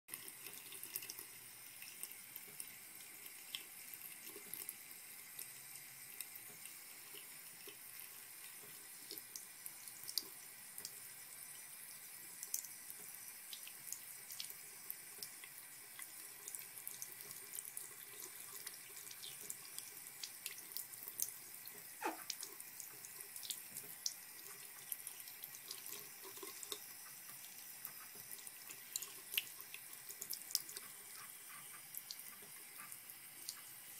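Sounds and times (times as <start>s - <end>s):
water drips and splashes: 0.1s - 33.9s
water running from a tap: 0.1s - 33.9s.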